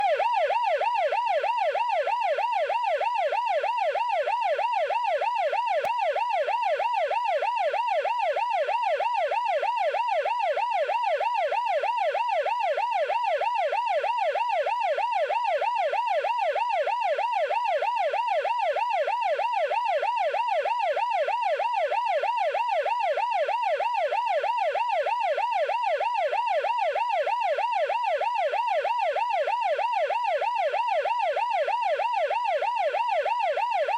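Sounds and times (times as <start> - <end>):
siren yelping: 0.0 - 33.9.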